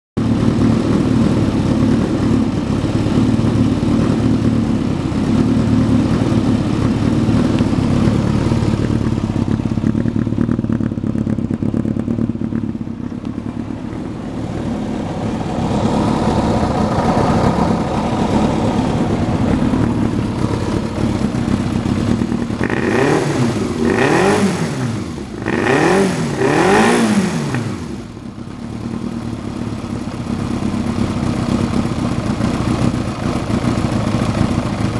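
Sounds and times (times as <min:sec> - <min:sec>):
motorcycle engine idling: 0:00.2 - 0:34.9
motorcycle throttle blips: 0:00.2 - 0:34.9.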